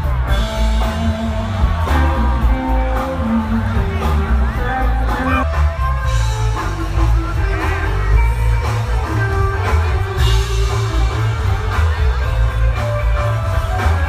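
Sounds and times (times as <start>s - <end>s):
electric guitar: 0.0s - 14.0s
heavy bass line: 0.0s - 14.0s.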